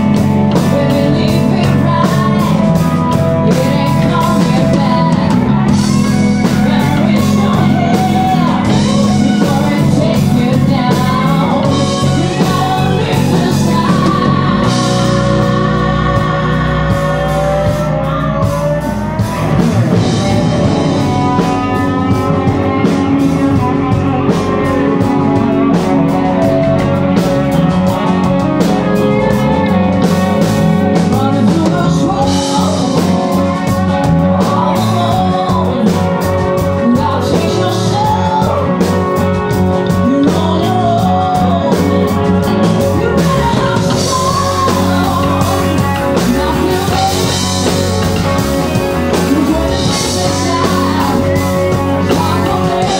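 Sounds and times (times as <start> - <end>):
drum kit beat: 0.0 - 52.9
electric guitars: 0.0 - 52.9
person singing: 0.0 - 52.9.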